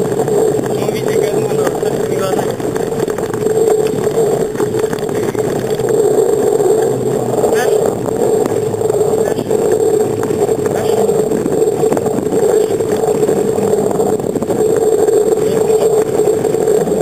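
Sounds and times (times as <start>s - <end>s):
bicycle rolling vibration: 0.0s - 17.0s
wind rushing: 0.0s - 17.0s.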